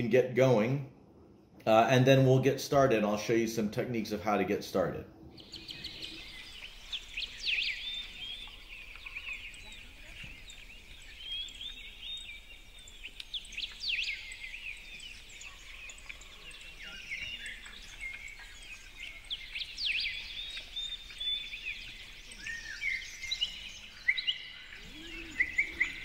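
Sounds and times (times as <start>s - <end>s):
birds singing and chirping: 5.2s - 26.0s.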